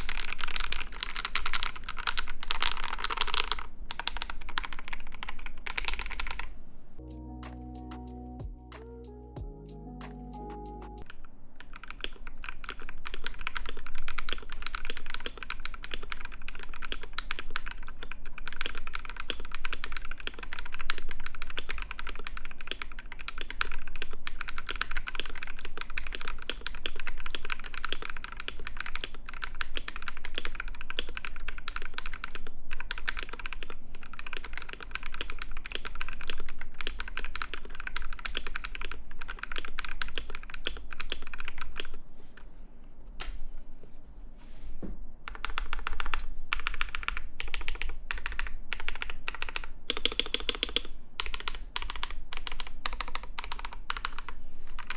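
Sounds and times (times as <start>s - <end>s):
fast keyboard typing: 0.0s - 6.5s, 11.0s - 42.0s, 45.3s - 54.9s.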